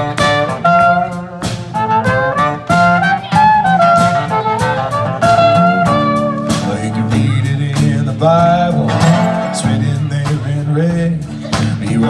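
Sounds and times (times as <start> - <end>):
bass line: 0.0 - 12.0
drum hits: 0.0 - 12.0
guitar: 0.0 - 12.0.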